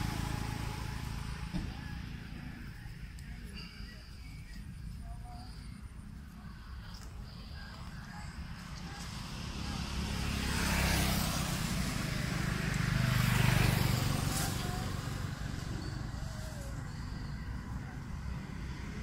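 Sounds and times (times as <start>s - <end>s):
vehicles passing on road: 0.0s - 19.0s.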